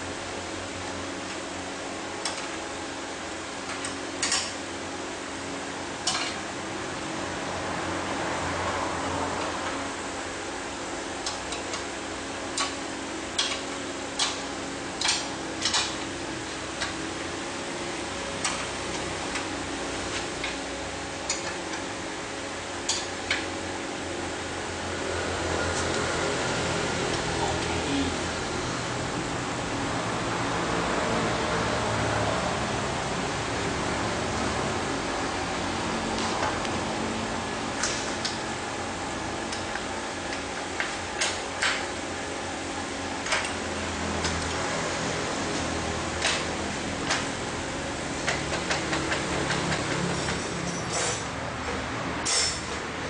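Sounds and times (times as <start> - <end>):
mechanical hum: 0.0 - 53.0.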